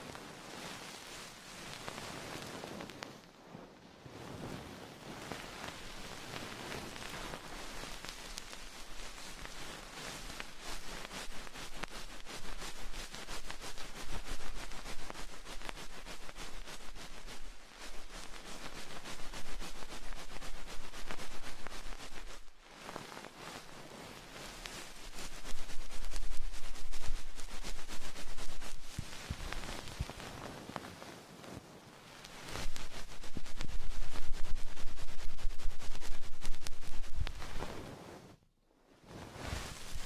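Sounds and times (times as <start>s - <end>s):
crackling and rustling at microphone: 0.0s - 40.0s.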